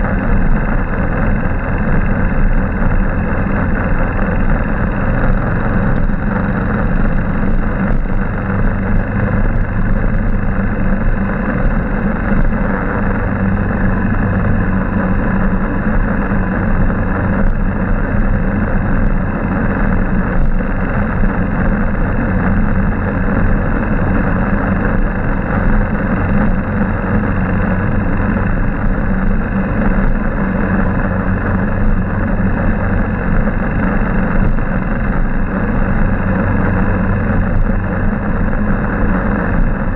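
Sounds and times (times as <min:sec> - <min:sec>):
motorbike engine running: 0:00.0 - 0:39.9
rushing noise of riding: 0:00.0 - 0:39.9.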